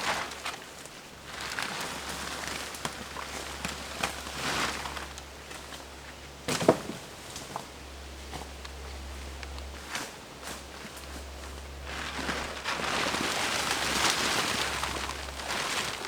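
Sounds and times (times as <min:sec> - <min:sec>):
dry sticks and leaves rustling: 0:00.0 - 0:16.0.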